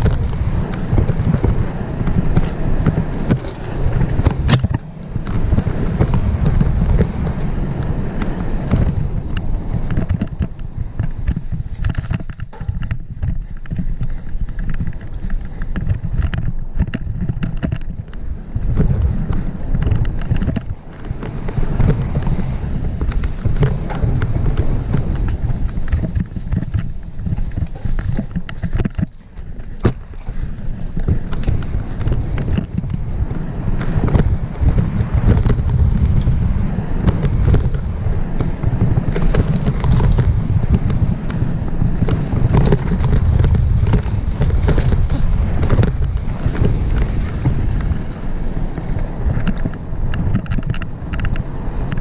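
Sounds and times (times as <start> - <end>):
bike knocking and rattling: 0.0 - 52.0
wind buffeting microphone: 0.0 - 52.0.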